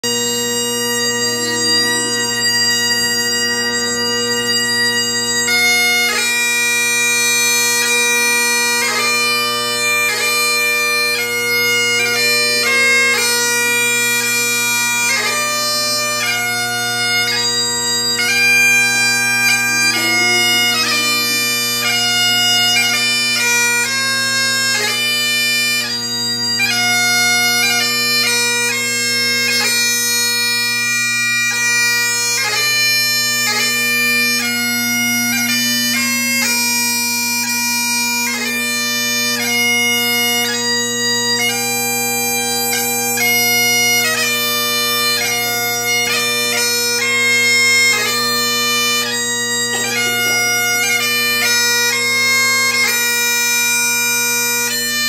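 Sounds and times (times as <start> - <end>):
bagpipe playing: 0.0 - 55.0.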